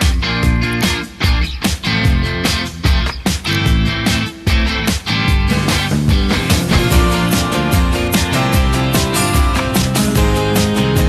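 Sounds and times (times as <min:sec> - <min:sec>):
rock music with guitar: 0:00.0 - 0:11.0.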